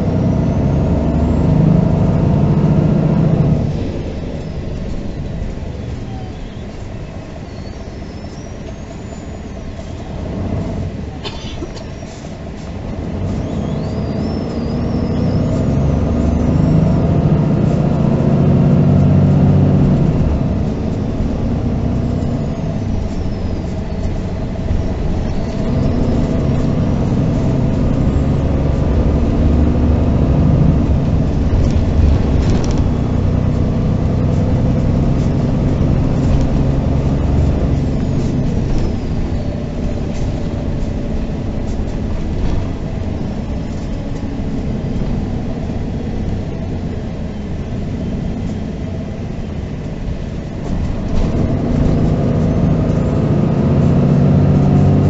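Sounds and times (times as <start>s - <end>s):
bus diesel engine: 0.0s - 55.0s.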